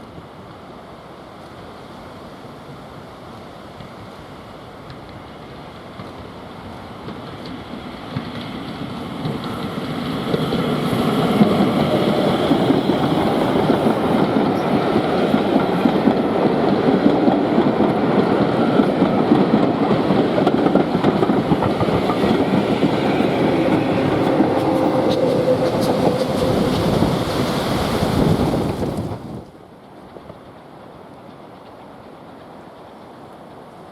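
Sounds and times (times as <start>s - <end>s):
steam train wheels clattering: 4.8s - 33.9s.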